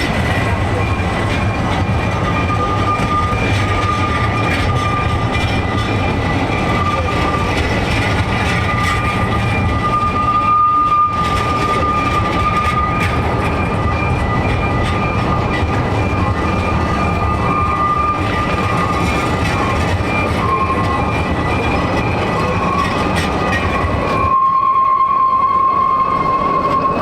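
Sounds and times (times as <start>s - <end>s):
high-pitched wheel squeal: 0.0s - 27.0s
train wheels rumbling on track: 0.0s - 27.0s.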